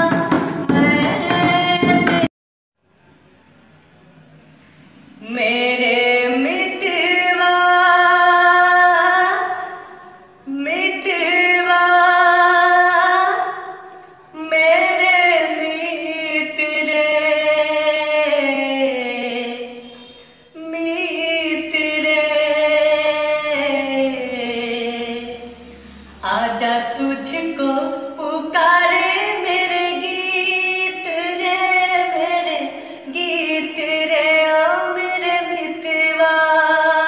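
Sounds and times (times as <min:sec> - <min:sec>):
person singing unaccompanied: 0:00.0 - 0:02.3, 0:05.2 - 0:37.0.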